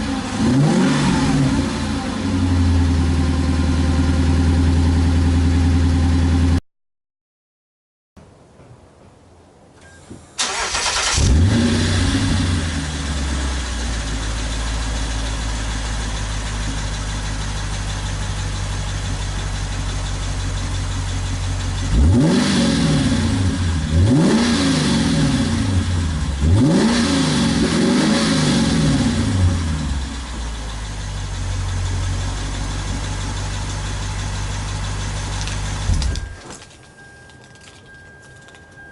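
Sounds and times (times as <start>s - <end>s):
car engine idling and revving: 0.0s - 6.6s, 10.4s - 36.4s.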